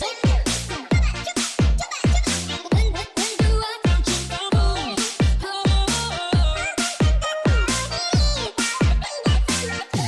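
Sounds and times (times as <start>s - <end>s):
heavy kick drum beat: 0.0s - 10.0s.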